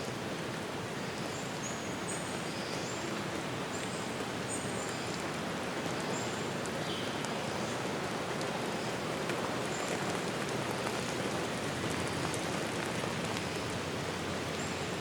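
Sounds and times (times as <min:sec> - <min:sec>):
falling water rushing: 0:00.0 - 0:15.0.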